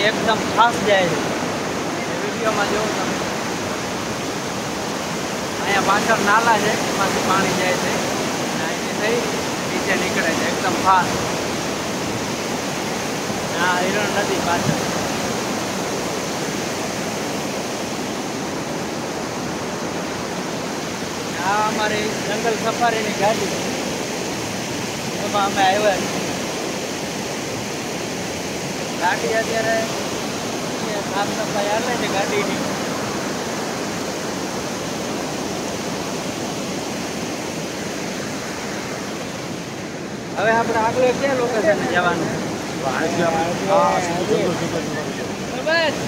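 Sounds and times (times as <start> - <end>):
river rushing over weir: 0.0 - 46.0.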